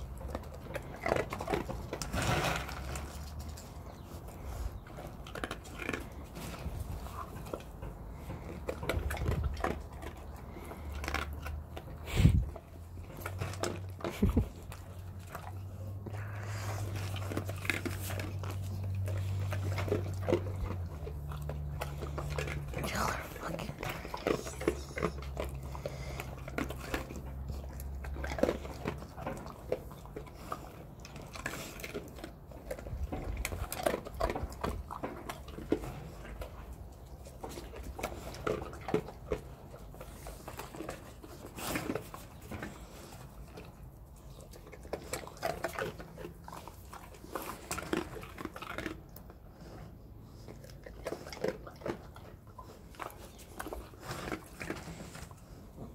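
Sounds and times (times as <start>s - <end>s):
dog chewing a treat: 0.0s - 55.9s.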